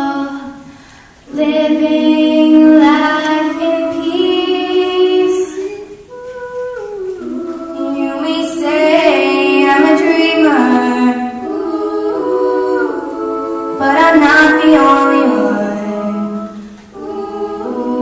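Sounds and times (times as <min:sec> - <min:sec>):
female choir singing in harmony: 0:00.0 - 0:18.0.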